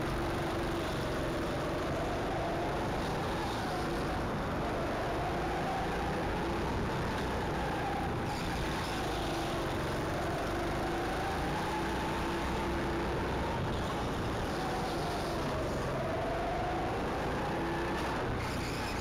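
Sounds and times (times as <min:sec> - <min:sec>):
go-kart engine revving: 0:00.0 - 0:19.0.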